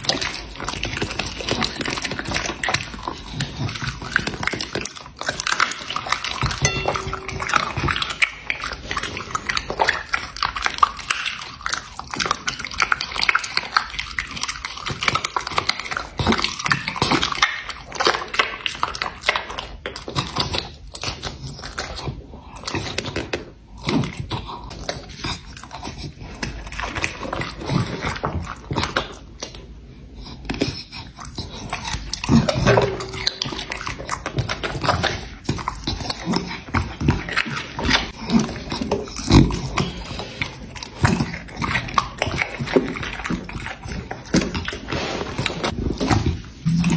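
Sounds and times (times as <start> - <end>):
dog chewing raw meat: 0.0 - 46.9.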